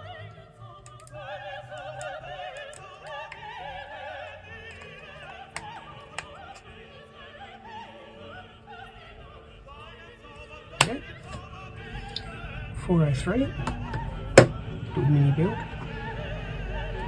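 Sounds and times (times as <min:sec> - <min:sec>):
operatic voice singing: 0:00.0 - 0:17.0.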